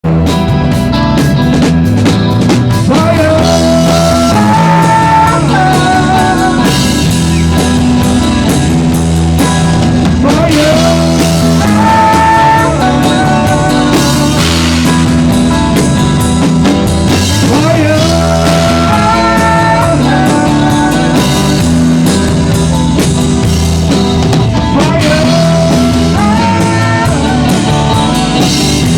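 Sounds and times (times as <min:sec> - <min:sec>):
bass line: 0:00.0 - 0:28.9
drums: 0:00.0 - 0:28.9
live rock band playing: 0:00.0 - 0:28.9.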